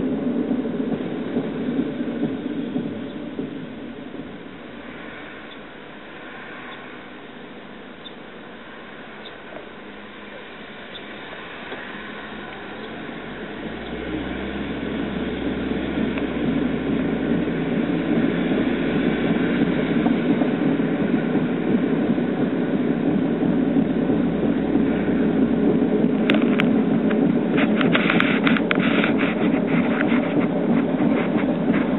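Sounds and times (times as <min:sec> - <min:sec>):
wheel bearing droning: 0:00.0 - 0:31.9.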